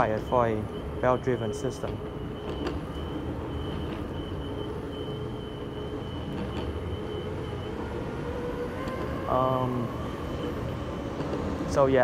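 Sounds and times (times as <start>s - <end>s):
electric motor whine: 2.0s - 12.0s.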